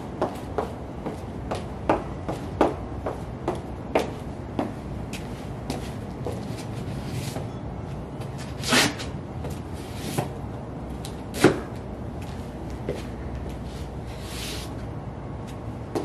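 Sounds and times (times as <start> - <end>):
boots scuffing on concrete: 0.2 - 14.8, 15.4 - 16.0.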